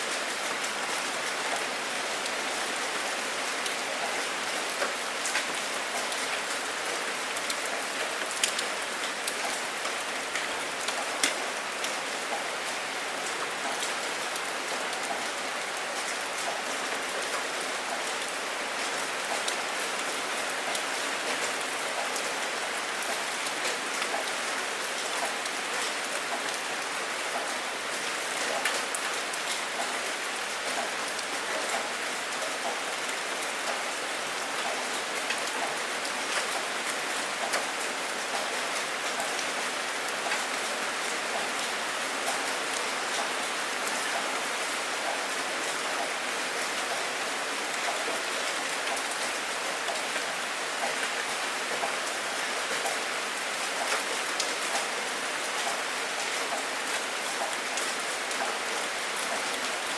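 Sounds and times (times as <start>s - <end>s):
rain falling steadily: 0.0s - 59.9s
ticks of single raindrops: 0.2s - 15.3s, 19.3s - 52.1s.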